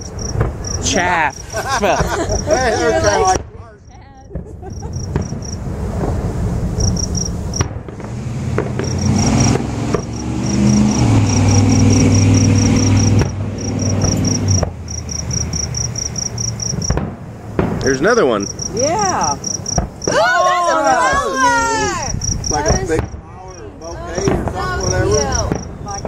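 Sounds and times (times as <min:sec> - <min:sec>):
vehicle engine humming: 0:00.0 - 0:03.3, 0:04.5 - 0:20.3, 0:22.1 - 0:26.0
crickets chirping: 0:00.0 - 0:26.0.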